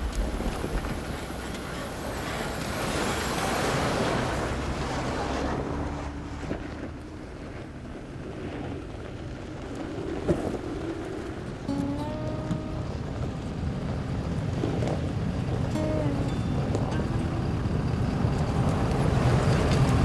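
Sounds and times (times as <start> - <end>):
vehicle engine and tyre rumble: 0.0 - 20.0.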